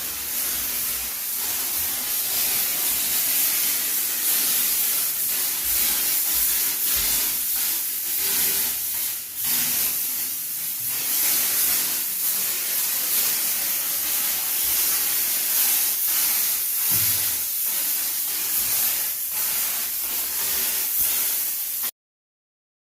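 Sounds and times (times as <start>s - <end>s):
sprayer hissing: 0.0s - 21.9s.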